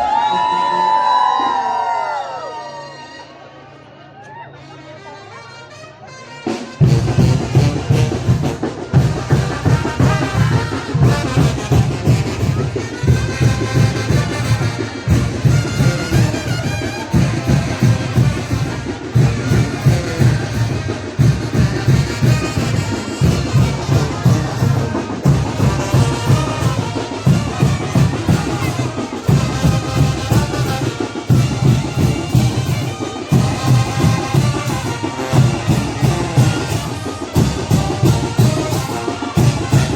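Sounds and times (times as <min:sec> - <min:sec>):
trumpets and trombones: 0:04.6 - 0:39.9
wind band playing: 0:04.6 - 0:39.9
bass drum beat: 0:06.9 - 0:39.9.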